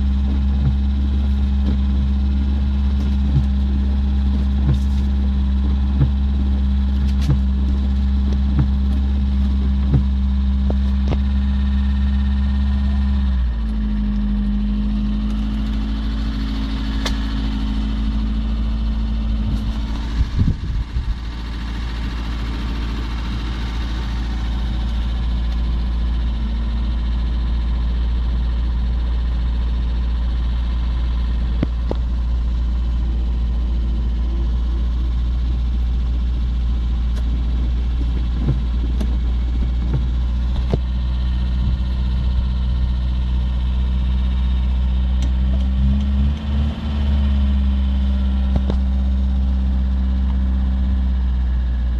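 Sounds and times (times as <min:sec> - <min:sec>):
low engine knocks: 0:00.0 - 0:27.9, 0:30.4 - 0:32.3, 0:34.6 - 0:43.6, 0:45.2 - 0:49.2
car engine idling: 0:00.0 - 0:51.9.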